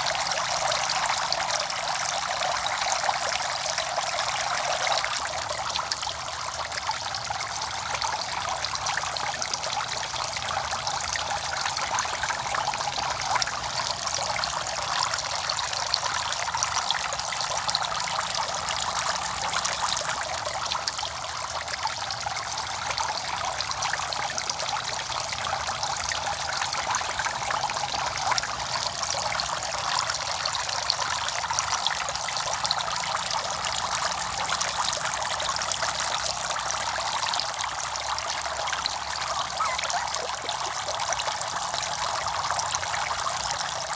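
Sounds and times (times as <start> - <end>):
water trickling and splashing: 0.0 - 43.9.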